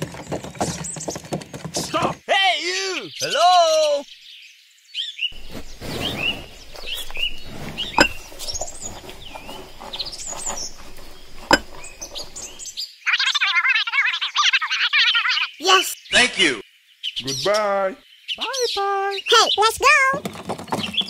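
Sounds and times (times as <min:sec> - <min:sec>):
birds chirping: 0:00.0 - 0:13.1, 0:15.2 - 0:21.0.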